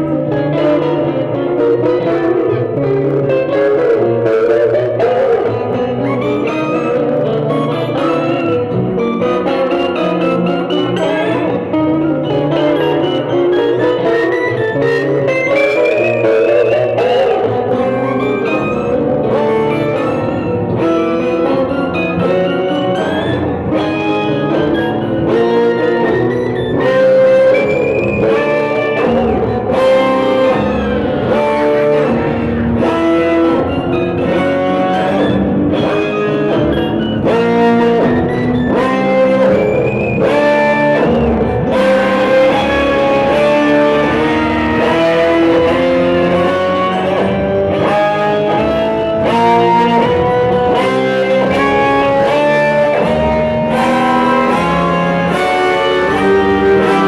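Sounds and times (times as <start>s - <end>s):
electric guitar blues lines: 0.0s - 57.0s.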